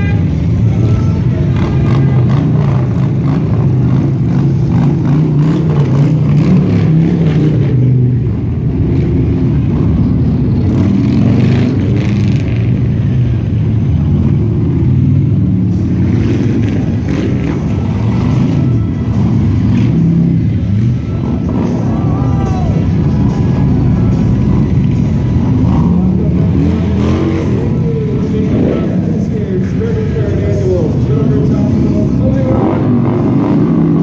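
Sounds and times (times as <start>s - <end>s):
motorcycles riding past: 0.0s - 34.0s.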